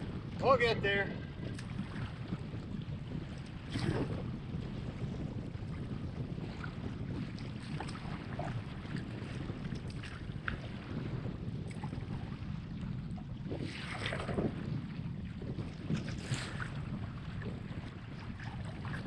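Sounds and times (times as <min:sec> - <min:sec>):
strong wind on microphone: 0:00.0 - 0:19.0
paddle splashing water: 0:00.2 - 0:19.0.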